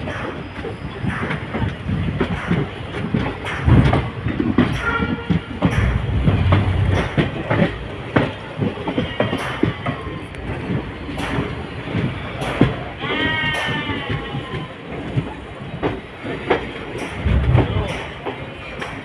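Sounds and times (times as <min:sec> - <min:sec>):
train carriage rattling: 0:00.0 - 0:19.0.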